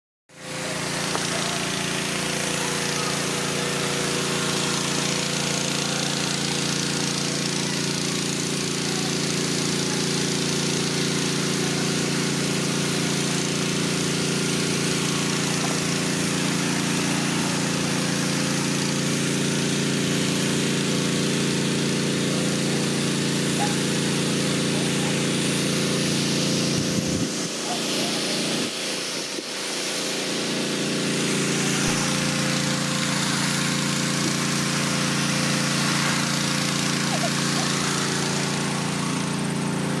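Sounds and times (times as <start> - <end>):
small engine running: 0.3 - 40.0.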